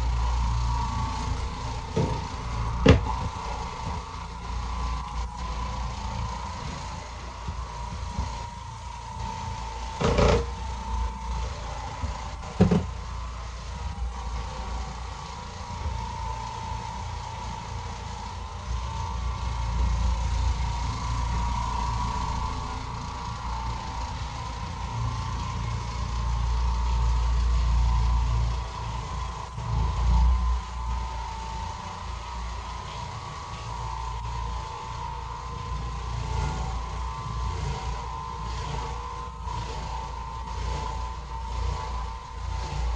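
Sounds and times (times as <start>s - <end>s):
floor machine motor whine: 0.0s - 42.9s.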